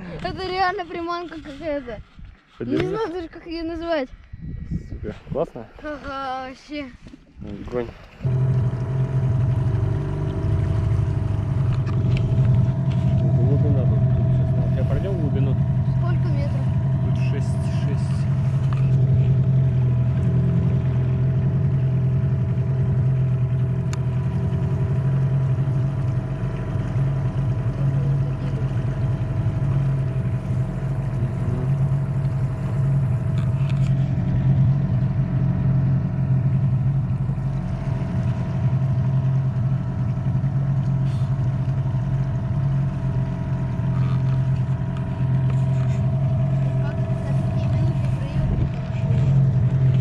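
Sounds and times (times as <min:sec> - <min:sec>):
constant hum: 0:00.0 - 0:50.0
outboard motor running: 0:00.0 - 0:50.0.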